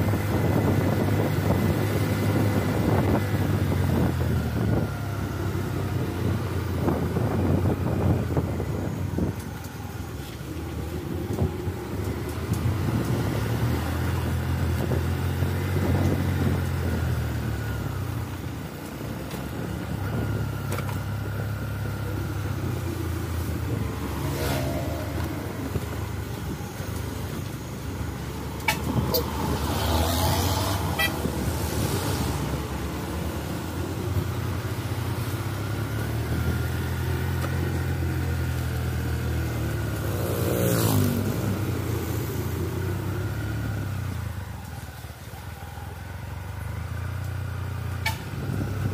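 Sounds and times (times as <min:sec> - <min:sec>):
truck diesel engine pulling uphill: 0:00.0 - 0:48.9.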